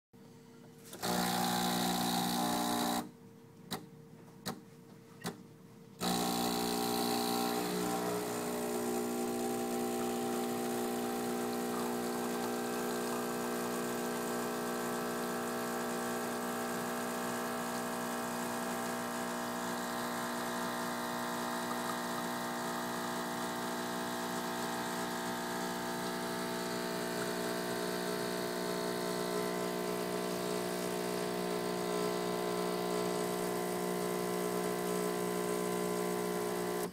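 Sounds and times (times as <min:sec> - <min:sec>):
espresso machine pump humming: 0:00.9 - 0:03.1, 0:06.0 - 0:36.9.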